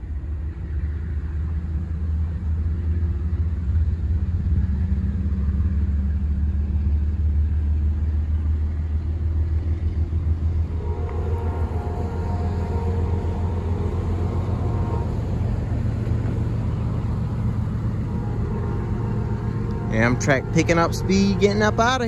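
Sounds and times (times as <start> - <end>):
diesel locomotive rumble: 0.0 - 22.0.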